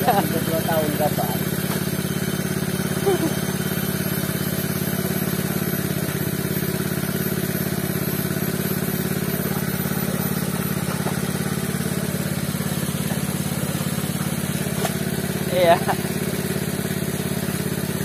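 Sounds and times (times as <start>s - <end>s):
petrol engine running steadily: 0.0s - 18.0s.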